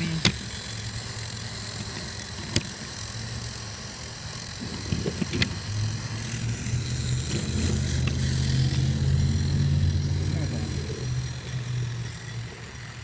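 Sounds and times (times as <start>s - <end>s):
toy train motor humming: 0.0s - 13.0s.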